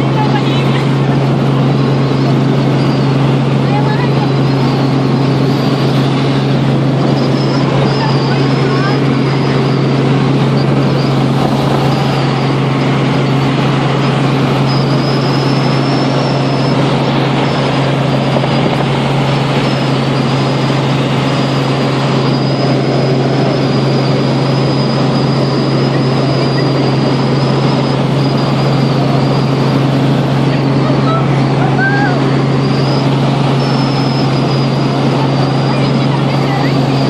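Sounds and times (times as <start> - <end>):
helicopter engine and rotor noise: 0.0 - 37.0
high turbine whine: 0.0 - 37.0.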